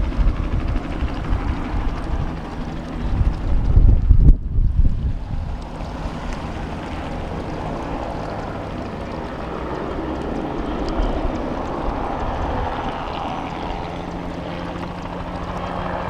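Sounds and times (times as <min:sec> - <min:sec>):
helicopter in flight: 0:00.0 - 0:16.0.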